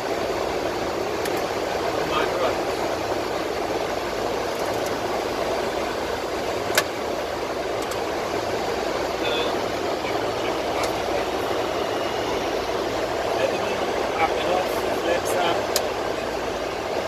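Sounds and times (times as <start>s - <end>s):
aircraft cockpit air and engine rush: 0.0s - 17.0s.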